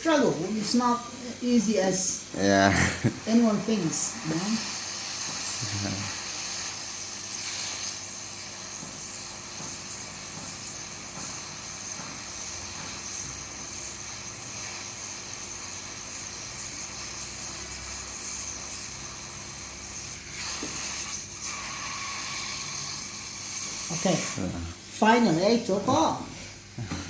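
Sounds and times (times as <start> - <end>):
hot-air blower hissing: 0.0 - 27.0.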